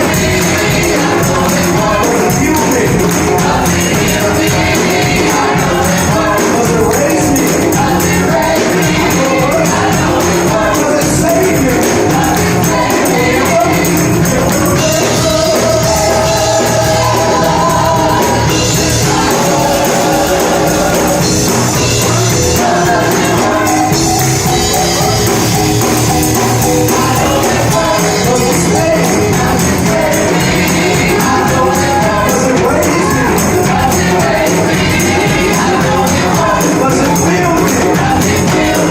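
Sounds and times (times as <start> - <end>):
tambourine: 0.0 - 38.9
voices singing gospel music: 0.0 - 38.9.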